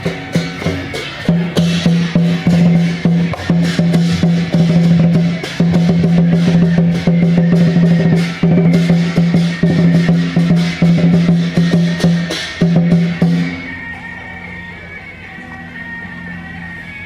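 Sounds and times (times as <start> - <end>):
drums and percussion music: 0.0 - 17.0.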